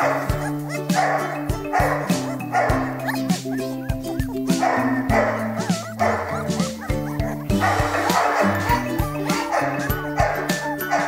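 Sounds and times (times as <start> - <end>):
background music with beat: 0.0 - 11.0
puppies whimpering and yipping: 0.0 - 11.0.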